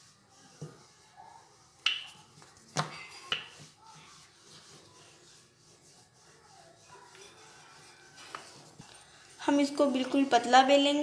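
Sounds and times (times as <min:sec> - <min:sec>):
rolling pin rubbing dough: 0:00.0 - 0:11.0.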